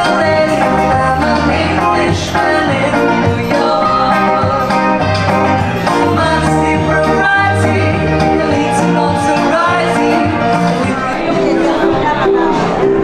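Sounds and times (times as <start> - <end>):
woman singing: 0.0 - 4.8, 5.9 - 12.6
bass line: 0.0 - 13.0
electric guitar: 0.0 - 13.0.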